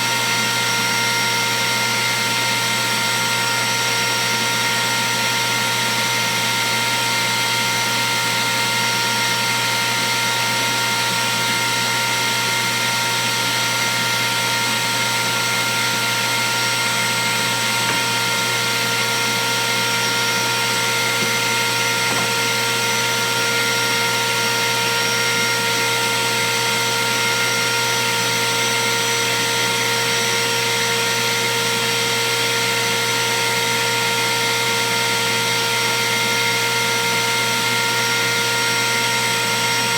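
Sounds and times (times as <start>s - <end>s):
router whining: 0.0s - 39.9s.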